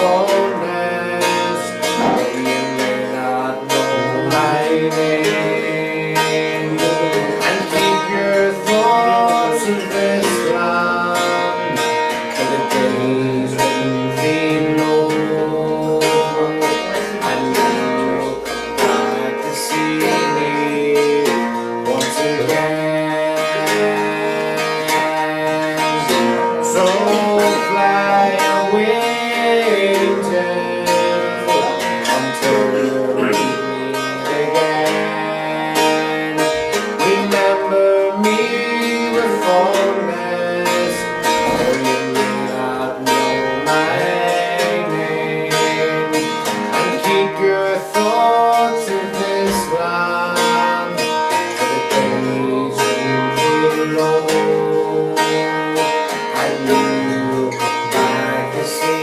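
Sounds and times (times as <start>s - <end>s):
acoustic guitar folk tune: 0.0s - 59.0s.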